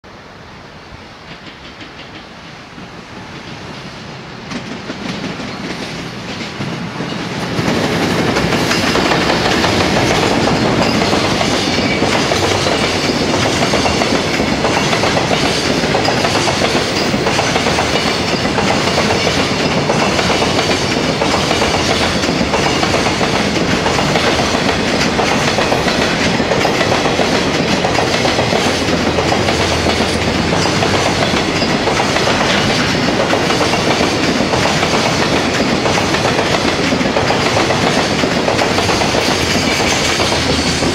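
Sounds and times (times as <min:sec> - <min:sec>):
electric locomotive passing: 0:00.1 - 0:40.9
train wagons rolling by: 0:01.2 - 0:40.9.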